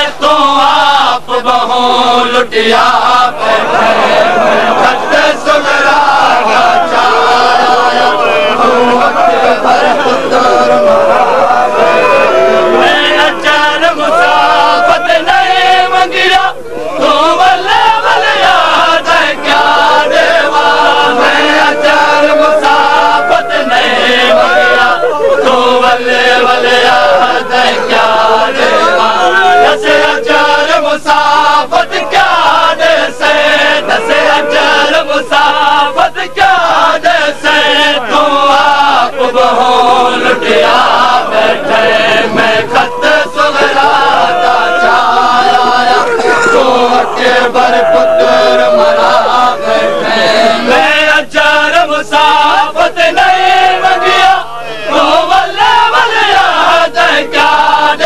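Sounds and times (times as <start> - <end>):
men chanting in chorus: 0.0 - 58.0.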